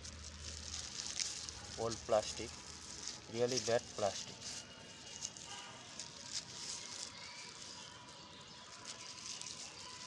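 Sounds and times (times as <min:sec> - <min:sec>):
plastic rustling and crackling: 0:00.0 - 0:10.0.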